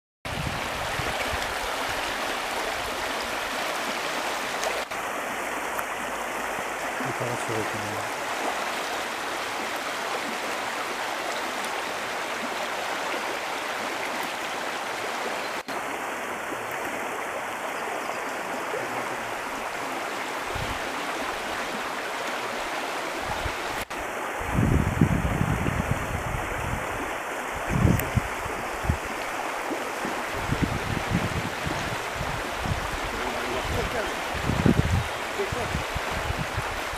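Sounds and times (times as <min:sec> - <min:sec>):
river rushing: 0:00.3 - 0:36.9.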